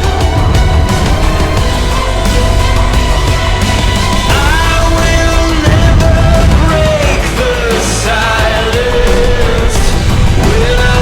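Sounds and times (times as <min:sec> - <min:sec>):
dramatic music with heavy bass: 0:00.0 - 0:11.0.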